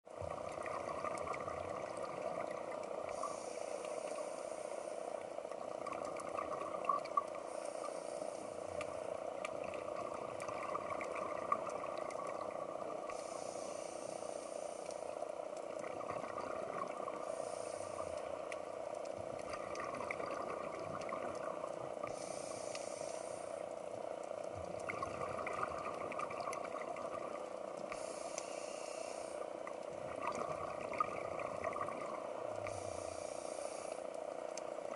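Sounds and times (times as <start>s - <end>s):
underwater hiss: 0.2s - 18.9s, 19.5s - 34.9s.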